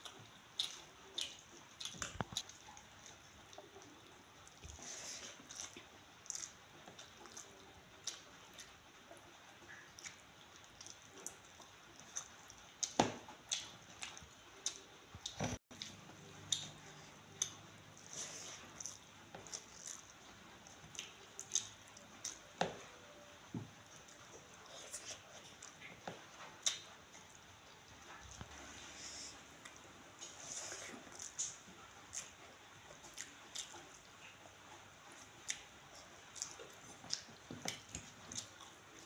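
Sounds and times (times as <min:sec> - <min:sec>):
wet squishing and chewing: 0:00.0 - 0:23.2, 0:23.8 - 0:39.0.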